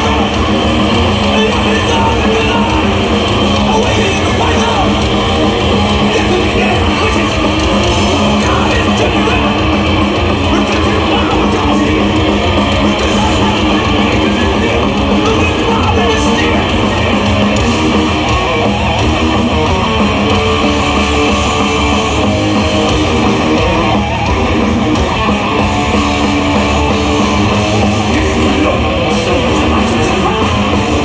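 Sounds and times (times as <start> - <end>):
drums: 0.0 - 31.0
heavily distorted electric guitars: 0.0 - 31.0.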